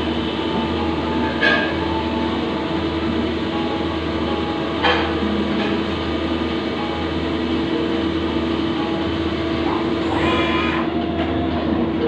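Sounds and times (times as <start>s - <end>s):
lathe running with mechanical hum: 0.0s - 12.0s.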